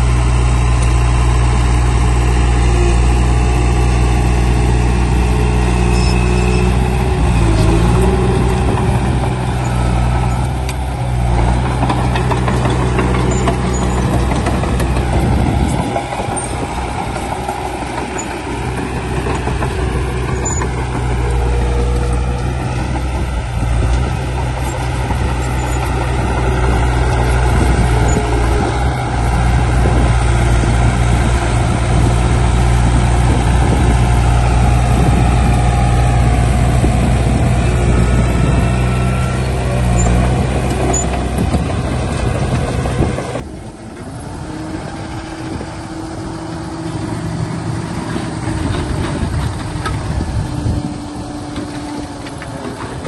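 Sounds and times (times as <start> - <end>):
diesel machinery engine running: 0.0 - 53.0.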